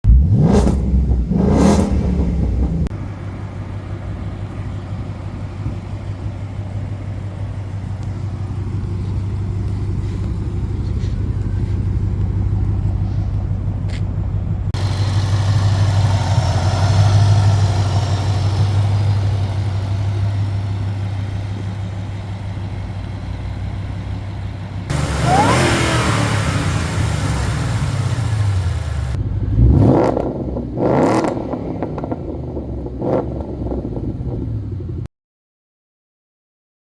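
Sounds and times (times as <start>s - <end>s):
car engine running and revving: 0.0s - 35.1s.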